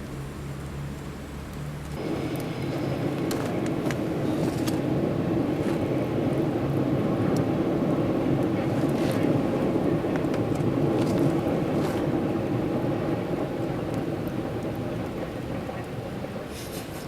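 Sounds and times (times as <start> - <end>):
campfire burning: 0.0 - 17.0
fire crackling and popping: 0.0 - 17.0.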